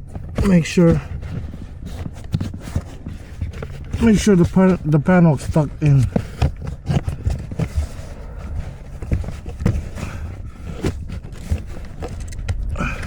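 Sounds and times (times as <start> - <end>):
plastic trim scraping and rustling: 0.0 - 13.0.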